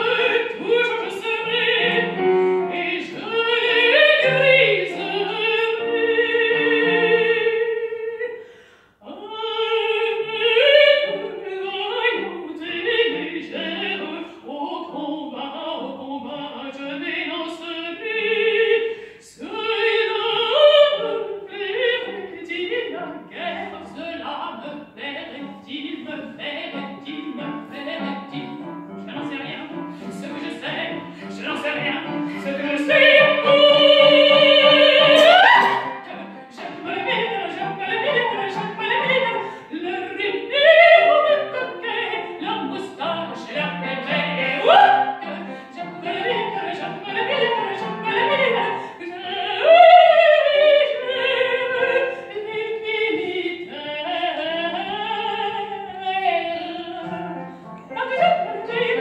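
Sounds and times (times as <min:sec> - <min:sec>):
woman singing opera with vibrato: 0:00.0 - 0:59.0.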